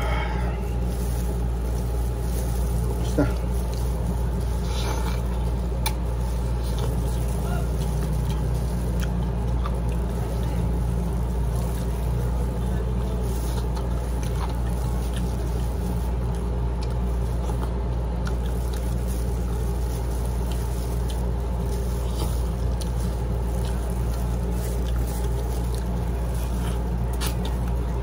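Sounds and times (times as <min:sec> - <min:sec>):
chewing: 0:00.0 - 0:28.0
steady low hum: 0:00.0 - 0:28.0.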